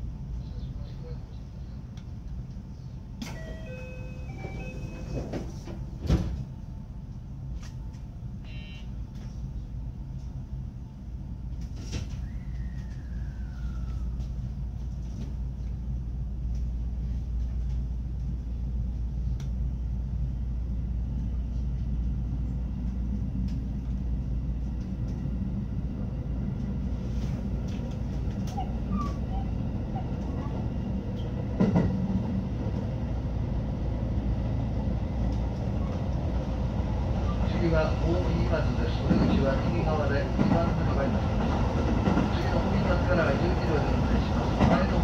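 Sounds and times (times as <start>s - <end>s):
train low rumble: 0.0s - 45.0s.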